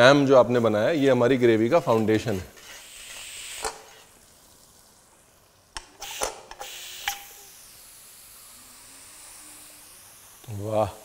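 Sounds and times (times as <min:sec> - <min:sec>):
steam hissing: 0:00.6 - 0:11.0.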